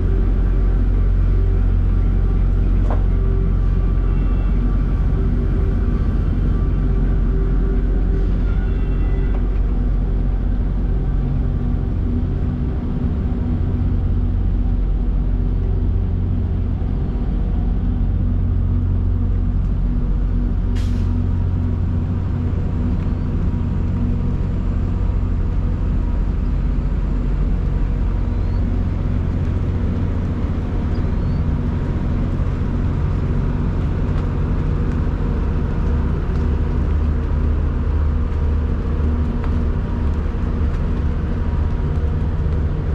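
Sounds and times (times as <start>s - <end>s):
diesel truck engine drone: 0.0s - 42.9s
road noise: 0.0s - 42.9s.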